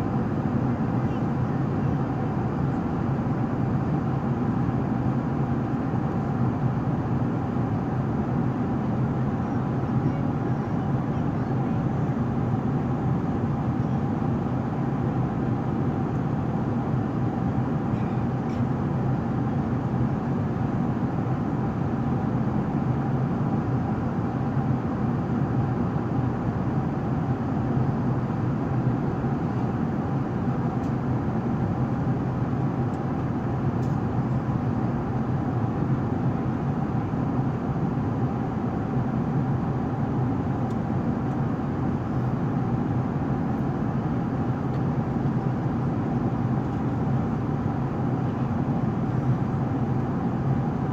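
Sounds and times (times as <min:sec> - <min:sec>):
airplane cabin noise: 0:00.0 - 0:50.9.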